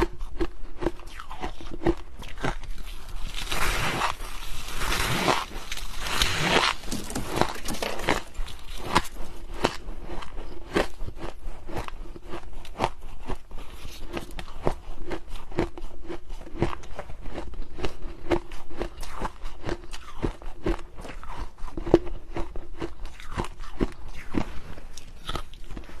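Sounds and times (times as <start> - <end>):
chewing frost crunching: 0.0 - 26.0.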